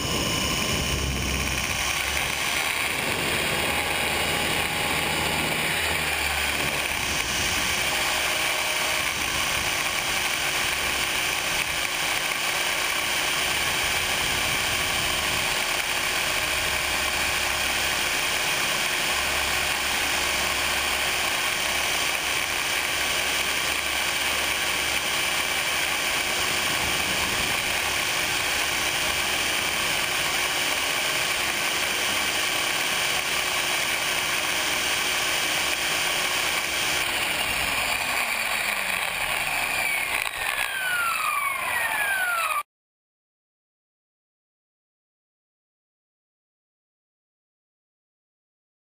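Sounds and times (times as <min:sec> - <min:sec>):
model helicopter motor whir: 0:00.0 - 0:42.7.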